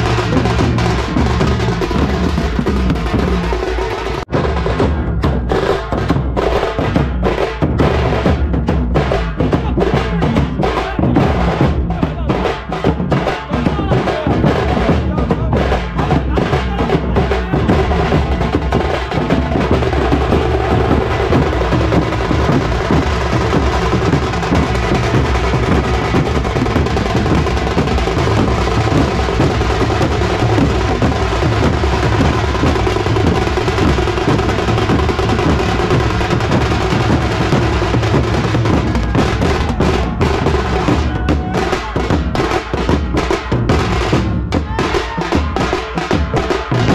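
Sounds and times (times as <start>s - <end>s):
bass drums: 0.0s - 46.9s
kettle drums beaten with sticks: 0.0s - 46.9s.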